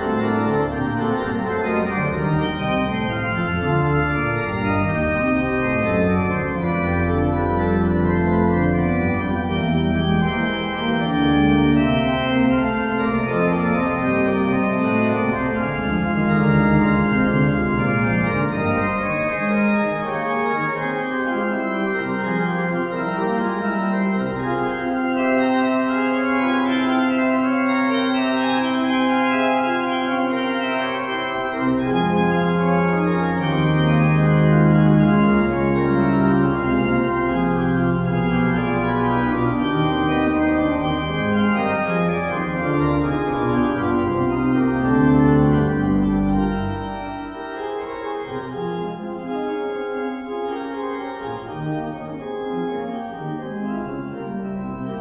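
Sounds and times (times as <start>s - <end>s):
pipe organ chords: 0.0s - 55.0s.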